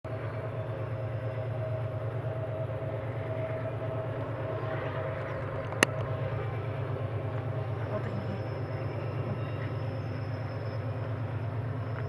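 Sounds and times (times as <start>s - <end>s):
locomotive engine rumble: 0.0s - 12.0s.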